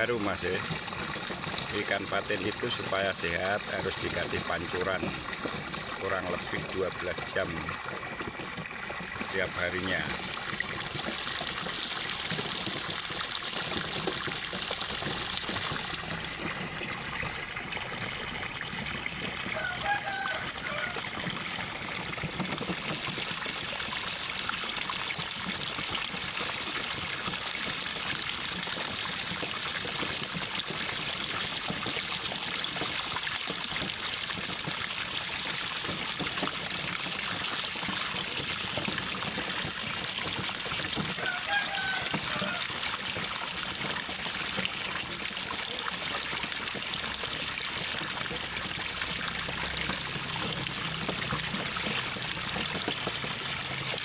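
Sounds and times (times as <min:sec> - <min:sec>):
water pouring from a pipe: 0:00.0 - 0:54.0.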